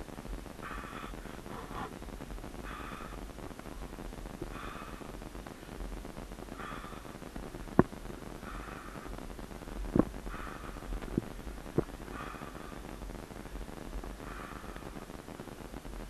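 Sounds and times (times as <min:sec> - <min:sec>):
person breathing hard: 0:00.6 - 0:15.1.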